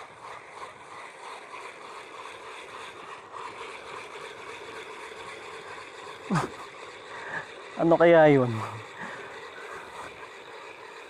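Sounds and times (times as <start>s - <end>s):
fishing reel whirring: 0.0s - 11.0s
wind: 0.0s - 11.0s.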